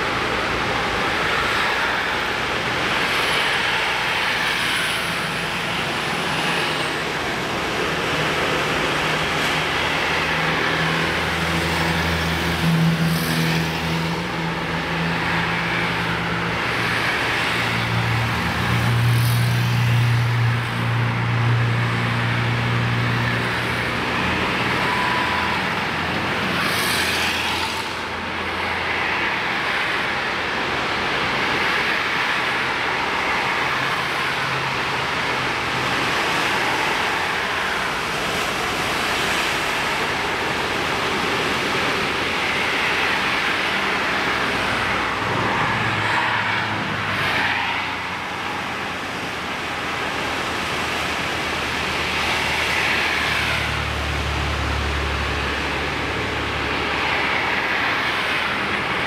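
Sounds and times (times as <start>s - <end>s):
cars passing: 0.0s - 59.0s
steady traffic rush: 0.0s - 59.0s.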